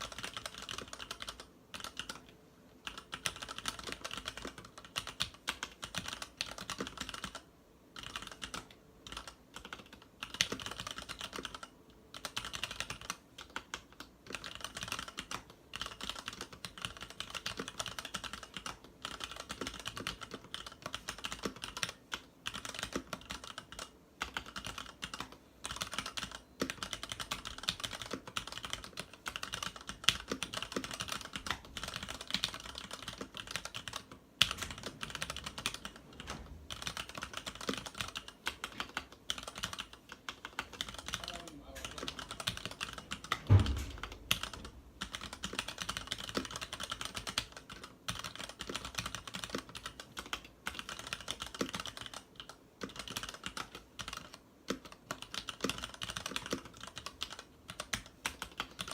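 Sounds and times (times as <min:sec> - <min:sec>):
fast typing on mechanical keyboard: 0:00.0 - 0:58.9.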